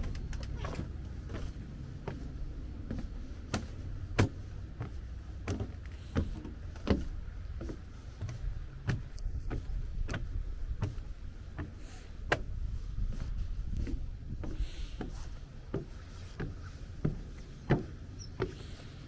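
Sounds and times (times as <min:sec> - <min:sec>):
low rumble: 0:00.0 - 0:18.8
footsteps: 0:00.0 - 0:19.0.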